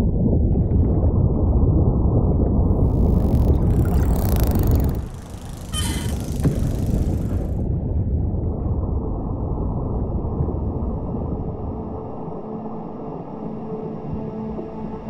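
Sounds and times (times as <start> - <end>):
muffled underwater rumble: 0.0 - 12.7.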